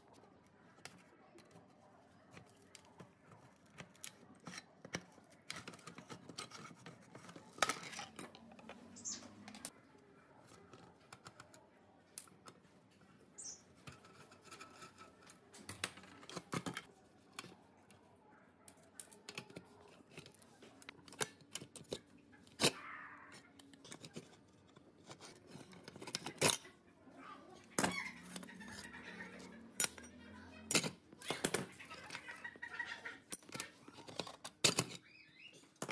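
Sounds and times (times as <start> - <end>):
tools clicking and scraping metal: 0.1 - 9.8, 10.4 - 18.0, 18.7 - 26.8, 27.6 - 32.2, 33.3 - 35.9.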